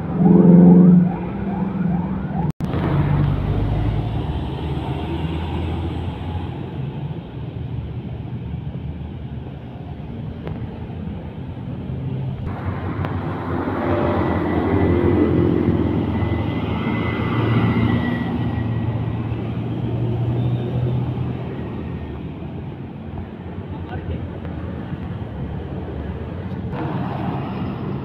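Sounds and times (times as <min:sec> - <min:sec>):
dump truck diesel engine passing: 0:00.0 - 0:08.8, 0:11.3 - 0:23.4, 0:24.7 - 0:28.0
street traffic: 0:00.0 - 0:28.0.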